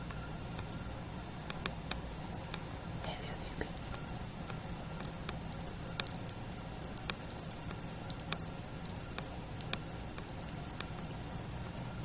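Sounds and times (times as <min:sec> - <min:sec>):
light irregular clicks: 0:00.0 - 0:00.8, 0:01.4 - 0:02.6, 0:03.4 - 0:12.0
steady low hum: 0:00.0 - 0:12.0.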